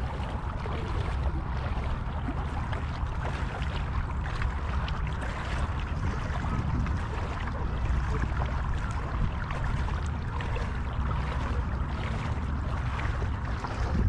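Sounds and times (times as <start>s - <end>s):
sea water lapping at shore: 0.0s - 14.0s
wind rumbling on microphone: 0.0s - 14.0s.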